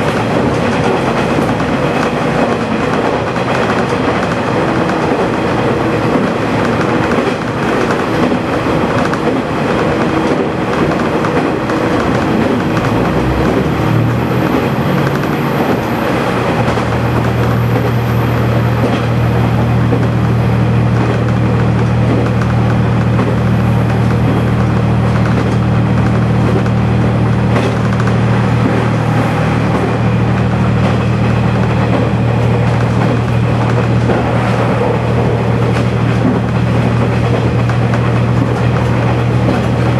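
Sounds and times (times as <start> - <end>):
diesel engine drone: 0.0 - 39.9
wheels on rail: 0.0 - 39.9.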